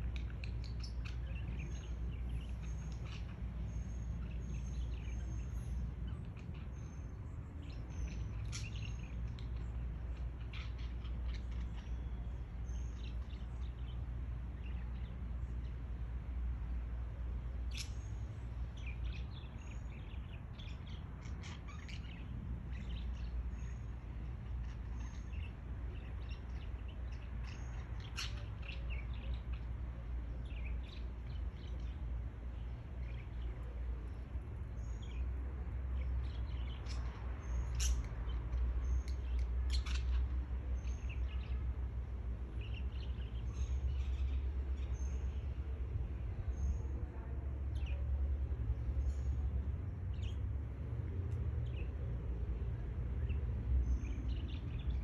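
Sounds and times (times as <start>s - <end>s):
low background rumble: 0.0s - 55.0s
small birds chirping: 0.0s - 55.0s.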